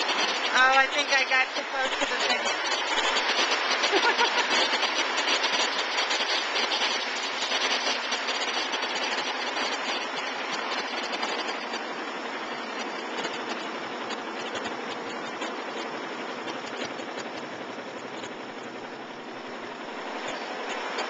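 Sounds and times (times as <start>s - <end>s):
embroidery machine rattling: 0.0s - 21.0s.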